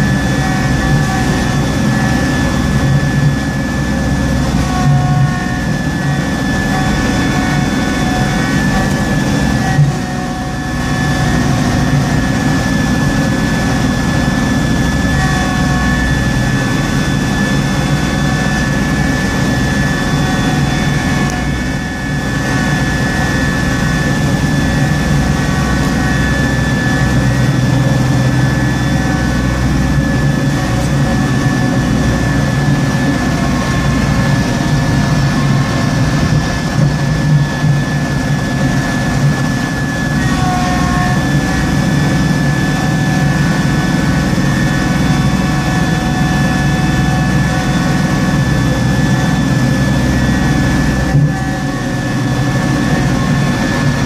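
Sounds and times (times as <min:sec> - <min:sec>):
steady high whine: 0:00.0 - 0:54.0
tractor engine running: 0:00.0 - 0:54.0.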